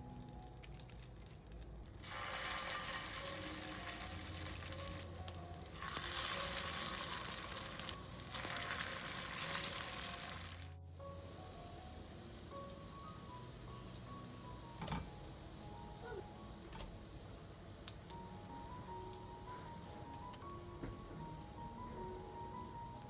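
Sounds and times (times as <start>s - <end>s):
food sizzling in hot oil: 0.0s - 23.0s
soft background music: 0.0s - 23.0s.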